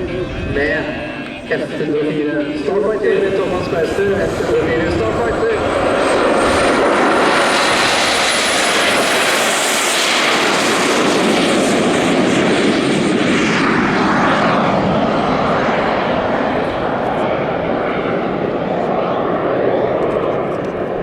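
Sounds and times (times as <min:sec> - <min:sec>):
model jet roaring past: 0:00.0 - 0:21.0.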